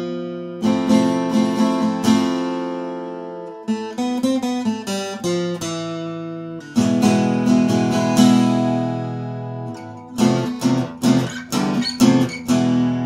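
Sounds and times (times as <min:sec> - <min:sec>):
acoustic guitar strummed and picked: 0:00.0 - 0:13.0.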